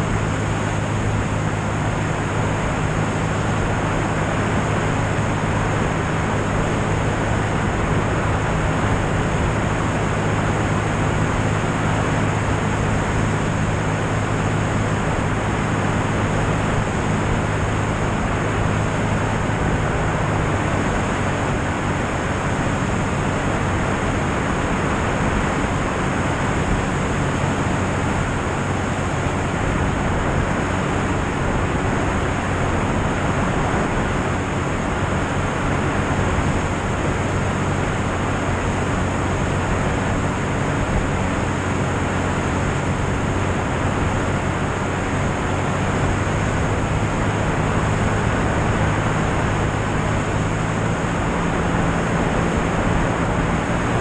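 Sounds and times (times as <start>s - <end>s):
aircraft engine and propeller drone: 0.0s - 54.0s
rush of airflow over microphone: 0.0s - 54.0s.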